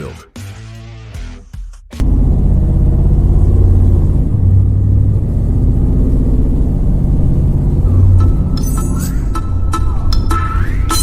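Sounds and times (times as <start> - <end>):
car engine exhaust rumble: 2.0 - 11.0.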